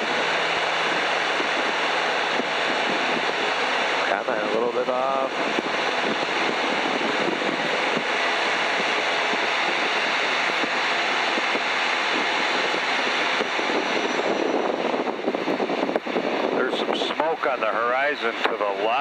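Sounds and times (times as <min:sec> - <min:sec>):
propeller plane engine at full power: 0:00.0 - 0:19.0
wind rushing: 0:00.0 - 0:19.0.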